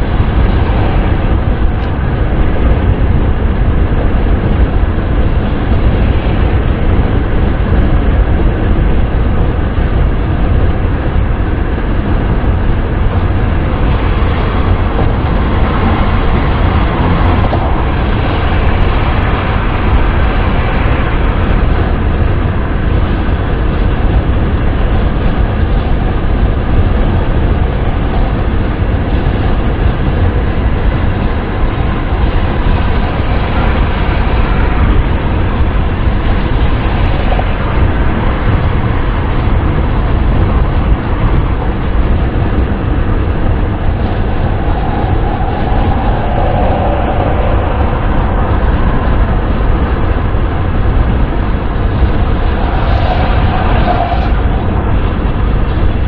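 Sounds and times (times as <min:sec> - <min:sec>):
car wind noise: 0:00.0 - 0:56.0
deep low rumble: 0:00.0 - 0:56.0.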